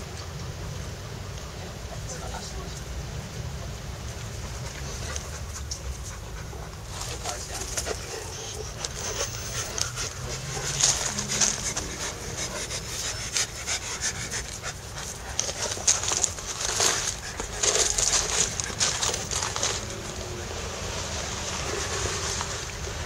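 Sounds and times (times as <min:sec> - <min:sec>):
dogs panting: 0:03.7 - 0:23.0
dogs scuffling: 0:04.0 - 0:23.0.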